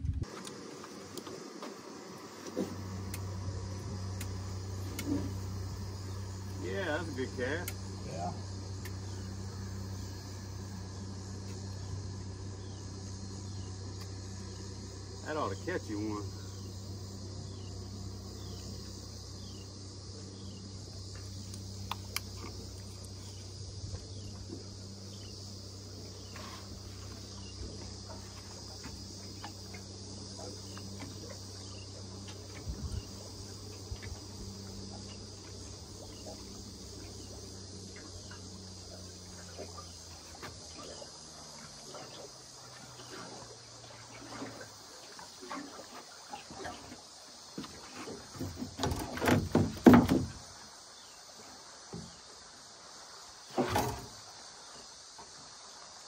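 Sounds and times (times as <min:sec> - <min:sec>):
low hum: 0:00.0 - 0:46.8
insect chorus drone: 0:00.0 - 0:56.0.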